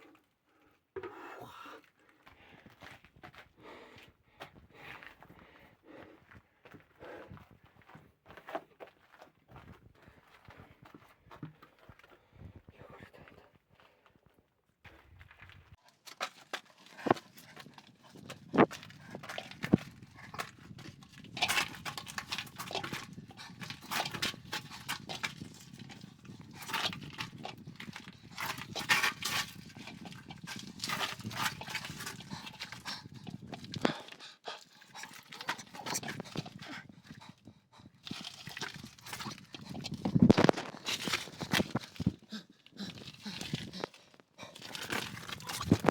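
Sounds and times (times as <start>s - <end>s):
footsteps on rough rock: 2.0s - 45.9s.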